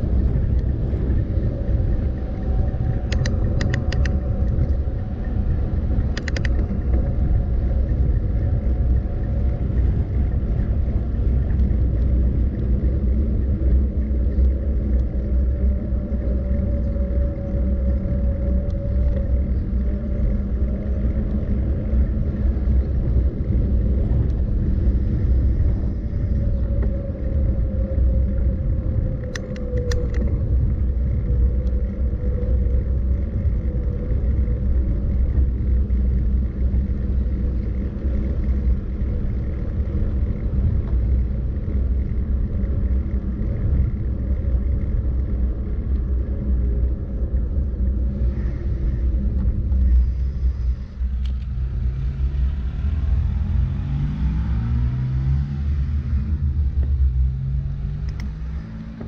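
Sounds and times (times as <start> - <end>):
faint wavering whine: 0.0 - 59.0
road and wind rumble: 0.0 - 59.0.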